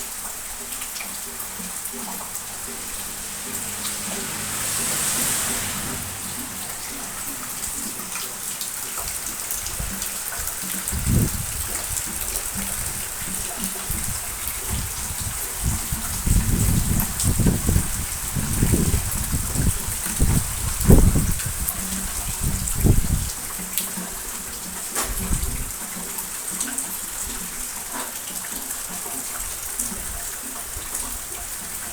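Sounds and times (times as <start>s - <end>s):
rain falling: 0.0s - 31.9s
raindrops ticking: 0.0s - 31.9s.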